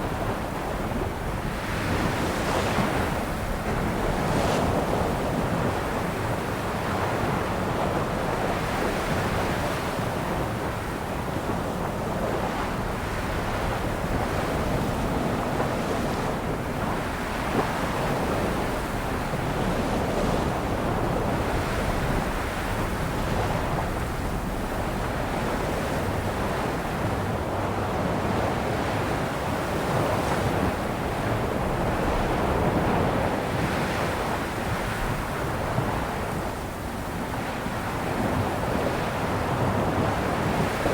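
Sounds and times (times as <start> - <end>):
sea waves breaking on shore: 0.0 - 40.9
wind on microphone: 0.0 - 40.9.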